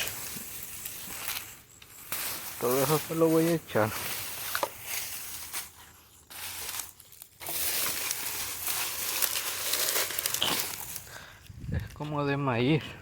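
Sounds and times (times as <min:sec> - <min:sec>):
dry corn stalks crinkling and rustling: 0:00.0 - 0:12.8.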